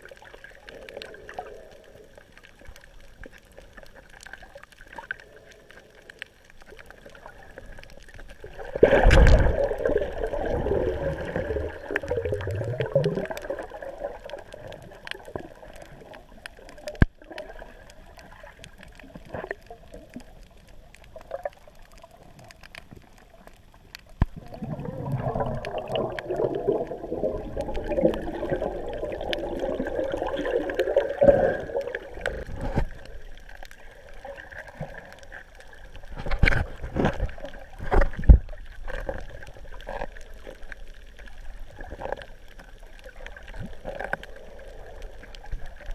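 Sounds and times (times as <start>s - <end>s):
muffled underwater gurgling: 0.0s - 45.9s.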